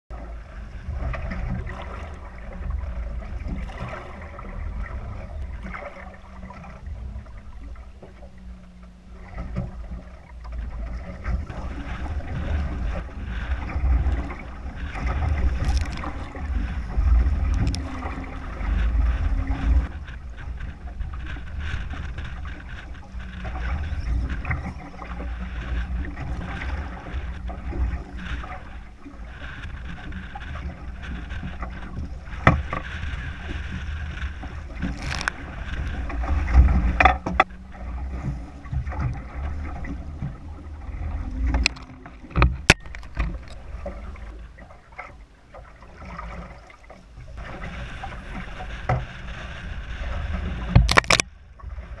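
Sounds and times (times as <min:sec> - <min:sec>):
choppy water lapping at boat: 0:00.1 - 0:52.0
knocks and clatters in boat: 0:00.1 - 0:52.0
wind buffeting microphone: 0:00.2 - 0:44.8.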